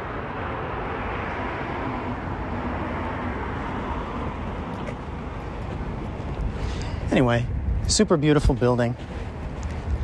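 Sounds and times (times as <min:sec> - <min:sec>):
traffic rumble: 0:00.0 - 0:10.0
vehicles passing: 0:00.0 - 0:10.0.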